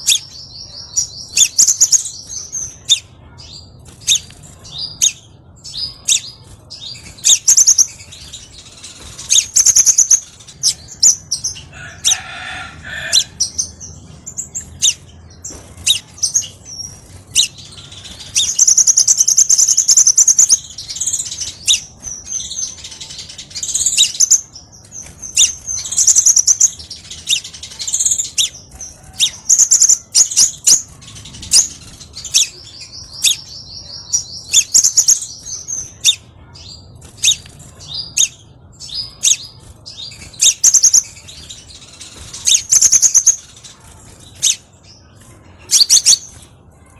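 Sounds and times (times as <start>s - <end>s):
bird chirping and trilling: 0.0s - 46.9s.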